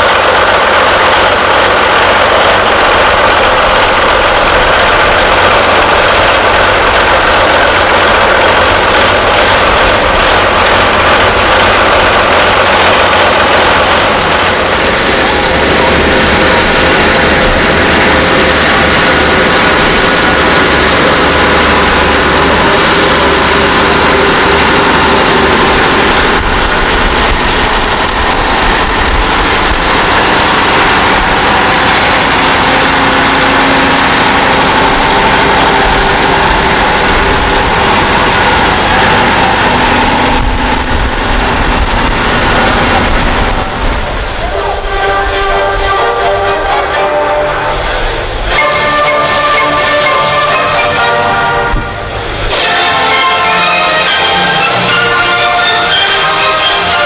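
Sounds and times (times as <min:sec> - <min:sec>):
tractor engine running loud: 0:00.0 - 0:57.0.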